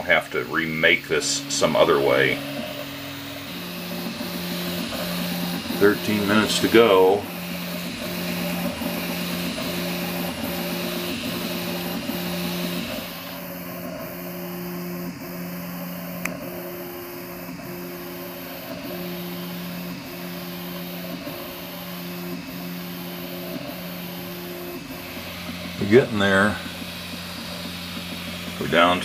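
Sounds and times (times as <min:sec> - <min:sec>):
cooling fans hissing: 0:00.0 - 0:29.0.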